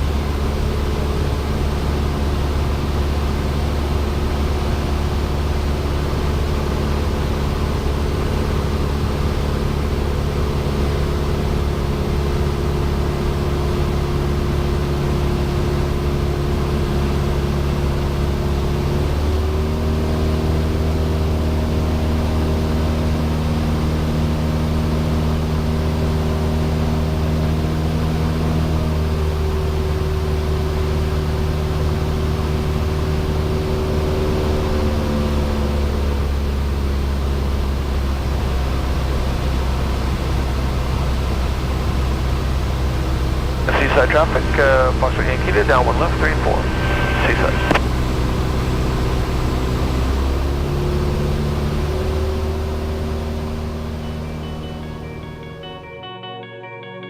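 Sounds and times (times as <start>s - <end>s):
propeller plane engine droning: 0.0s - 54.6s.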